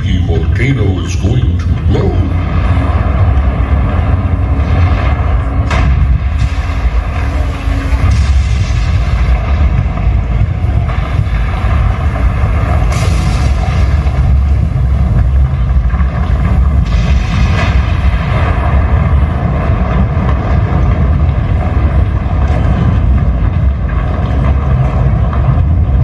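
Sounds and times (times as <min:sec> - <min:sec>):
loud low rumble: 0:00.0 - 0:26.0.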